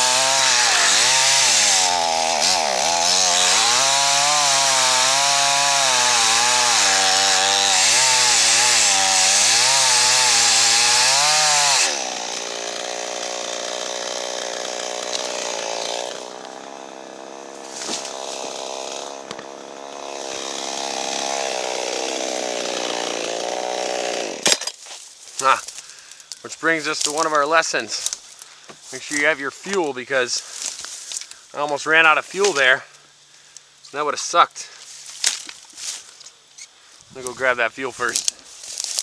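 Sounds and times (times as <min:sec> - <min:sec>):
chainsaw cutting wood: 0:00.0 - 0:31.4, 0:38.0 - 0:39.0.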